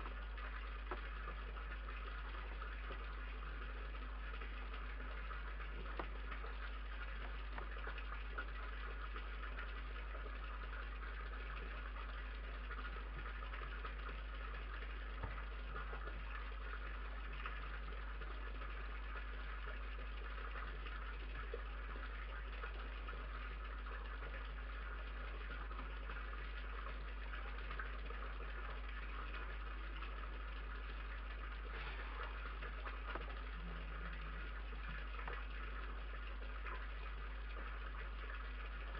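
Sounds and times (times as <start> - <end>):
electrical hum and hiss: 0.0 - 38.9.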